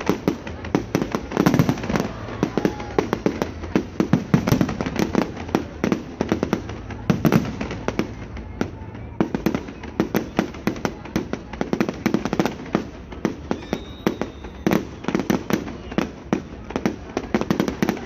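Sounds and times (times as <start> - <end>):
fireworks bursts and bangs: 0.0 - 18.0.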